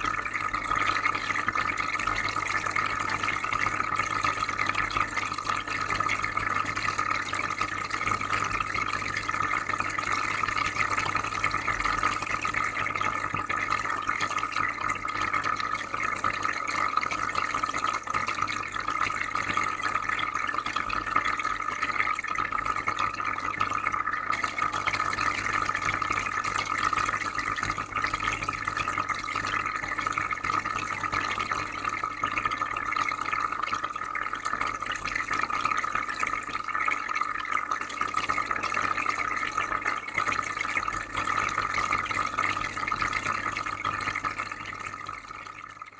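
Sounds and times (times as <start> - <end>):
water bubbling and trickling: 0.0 - 45.9.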